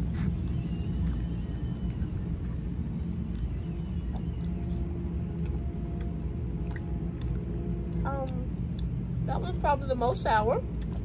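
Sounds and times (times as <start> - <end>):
faint hum: 0.0 - 11.0
low rumble: 0.0 - 11.0.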